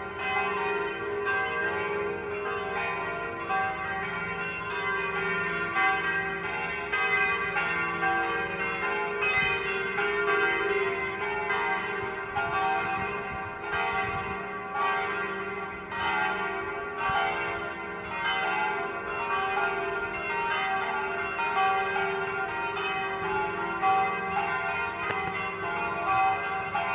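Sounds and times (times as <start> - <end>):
church bells ringing: 0.0 - 26.9.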